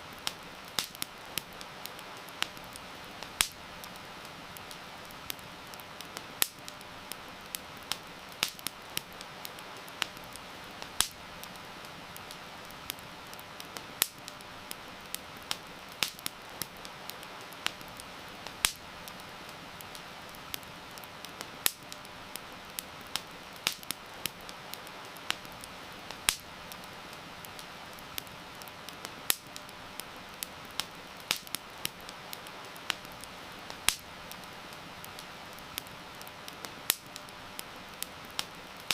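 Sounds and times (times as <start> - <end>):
heavy rain hiss: 0.0 - 38.9
wood fire crackling and popping: 0.0 - 38.9.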